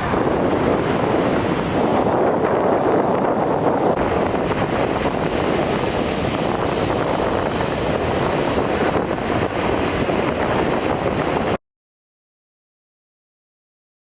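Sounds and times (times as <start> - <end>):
beach surf: 0.0 - 11.6
wind buffeting microphone: 0.0 - 11.6.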